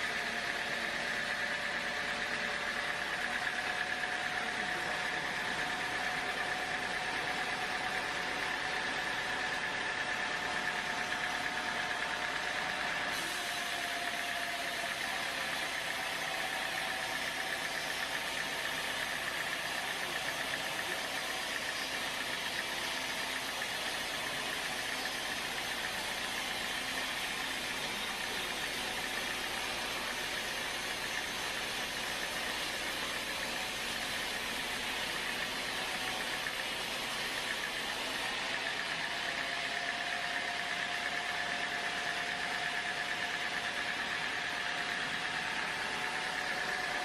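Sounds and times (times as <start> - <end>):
sawmill machinery running: 0.0 - 47.0.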